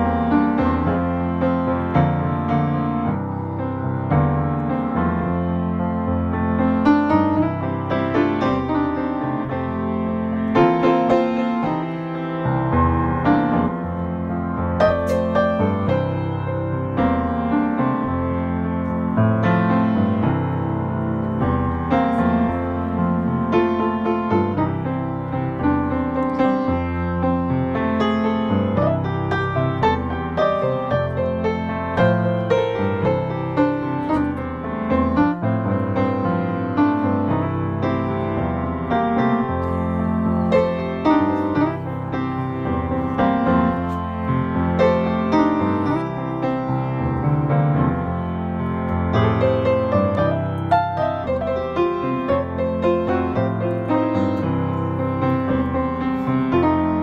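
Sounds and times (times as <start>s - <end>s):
solo piano music: 0.0s - 57.0s.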